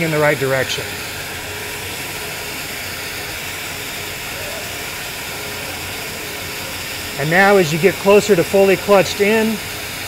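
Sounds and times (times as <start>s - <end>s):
machinery and ventilation hissing: 0.0s - 10.0s.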